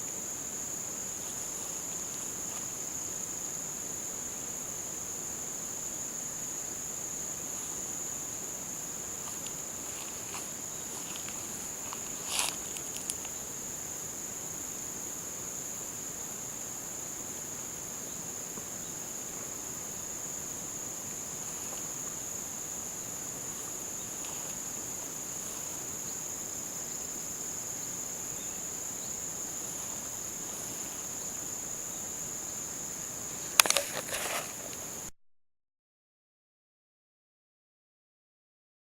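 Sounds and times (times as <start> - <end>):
insects chirping chorus: 0.0 - 35.1.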